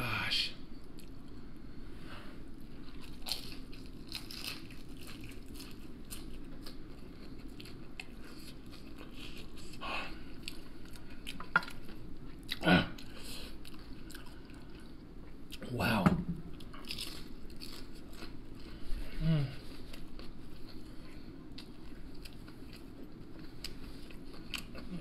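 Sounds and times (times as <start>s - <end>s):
chewing crunchy food: 2.6s - 15.7s, 16.5s - 19.0s, 19.6s - 25.0s.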